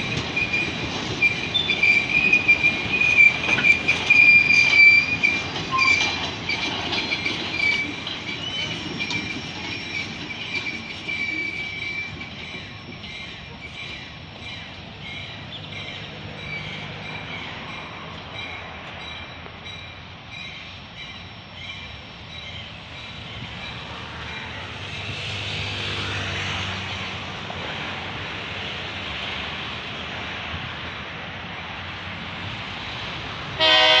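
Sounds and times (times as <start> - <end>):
diesel locomotive engine: 0.0 - 34.0
wheels rumbling on rail: 0.0 - 34.0.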